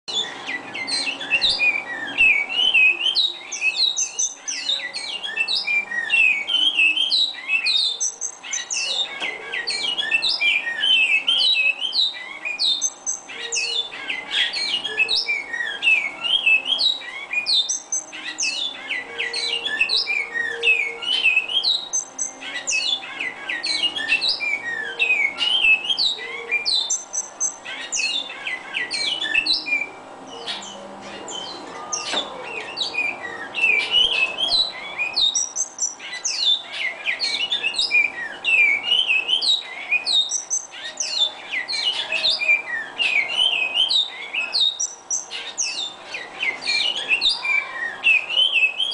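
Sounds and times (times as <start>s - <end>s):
finches singing: 0.1s - 48.9s.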